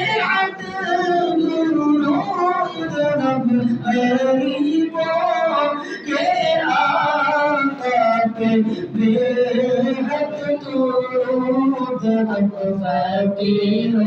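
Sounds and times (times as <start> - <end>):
man singing a devotional chant: 0.0 - 14.0.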